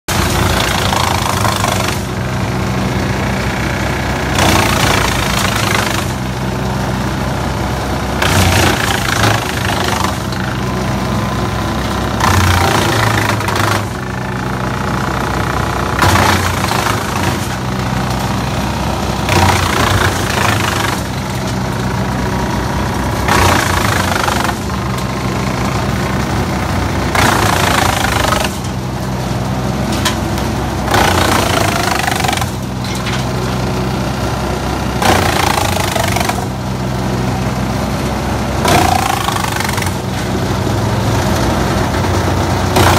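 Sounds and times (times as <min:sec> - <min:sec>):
diesel engine running: 0:00.0 - 0:42.9
wood chipper chipping branch: 0:00.1 - 0:42.9.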